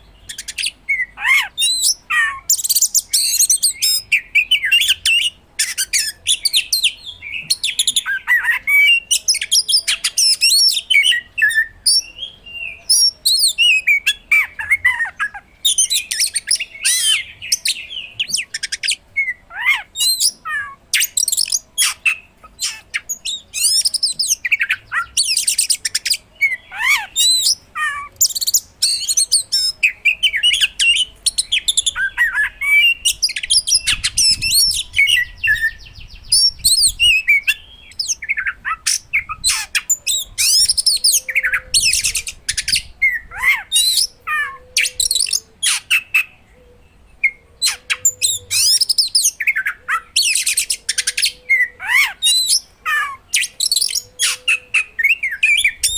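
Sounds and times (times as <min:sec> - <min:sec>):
magpie-robin singing: 0:00.0 - 0:55.9.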